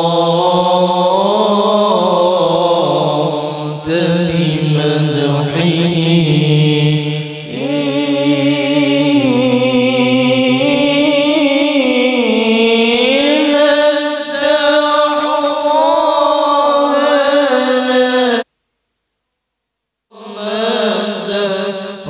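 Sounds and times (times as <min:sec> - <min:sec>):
person chanting through loudspeakers: 0:00.0 - 0:18.5, 0:20.1 - 0:22.0.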